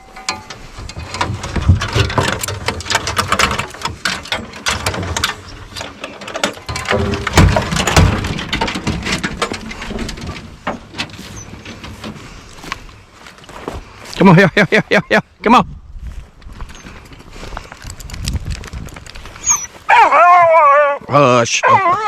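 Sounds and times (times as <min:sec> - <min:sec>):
rustling and crackling: 0:00.0 - 0:15.1, 0:16.0 - 0:20.5
heavy low bumps: 0:00.0 - 0:19.6.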